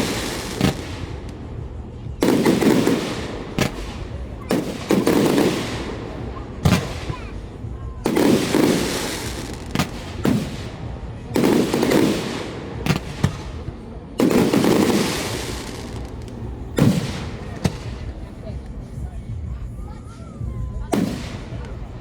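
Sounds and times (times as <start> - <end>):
sharp fireworks cracks: 0.0 - 18.8, 20.9 - 22.0
fireworks booming: 0.0 - 19.5, 20.4 - 22.0.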